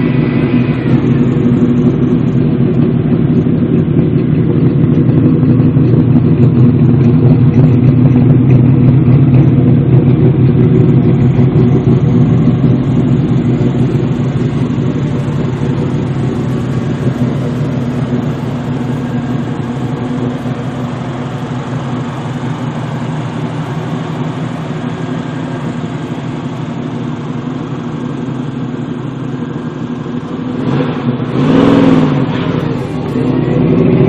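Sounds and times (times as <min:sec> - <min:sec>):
car engine rumbling and revving: 0:00.0 - 0:34.0.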